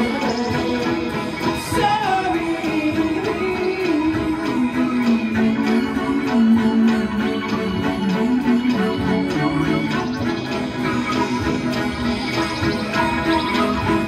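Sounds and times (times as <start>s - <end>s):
pop-punk band playing live: 0.0s - 14.0s.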